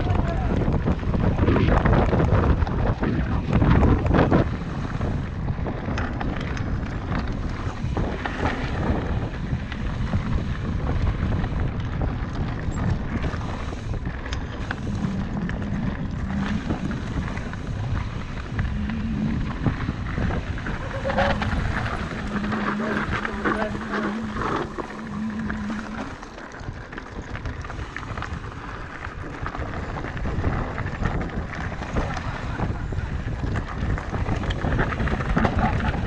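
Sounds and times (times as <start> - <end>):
bike clicks and rattles: 0.0 - 36.0
tyres rumbling on dirt trail: 0.0 - 36.0
wind buffeting microphone: 0.0 - 36.0.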